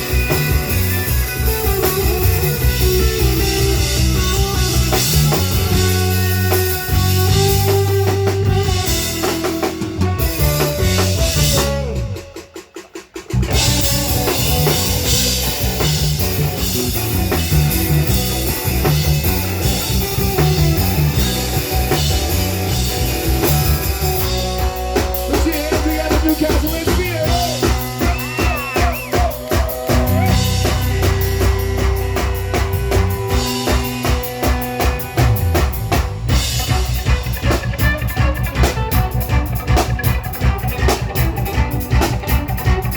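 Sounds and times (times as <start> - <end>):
live band playing: 0.0 - 42.9
steady drum beat: 0.0 - 42.9.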